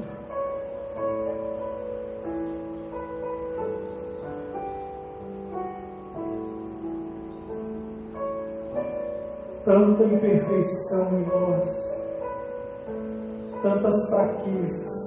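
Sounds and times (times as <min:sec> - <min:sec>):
soft keyboard music: 0:00.0 - 0:15.0.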